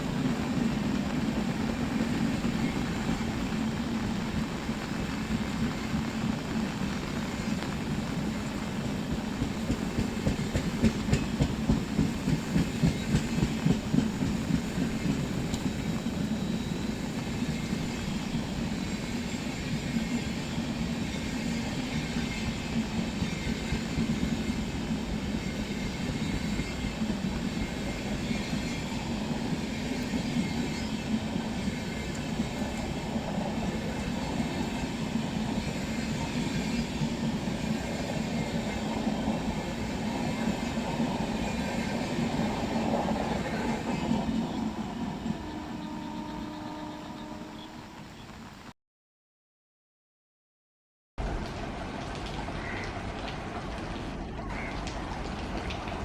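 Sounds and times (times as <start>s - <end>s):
train rumbling on rails: 0.0s - 48.7s, 51.2s - 56.0s.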